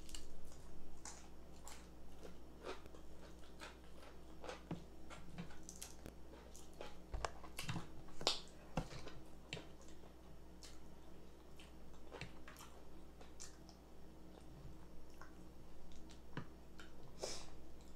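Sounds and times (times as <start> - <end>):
chewing fried chicken: 0.0 - 17.9.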